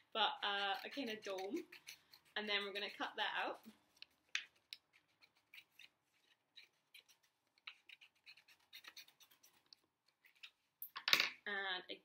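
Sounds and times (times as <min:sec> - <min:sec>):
scissors snipping paper: 0:00.4 - 0:10.6.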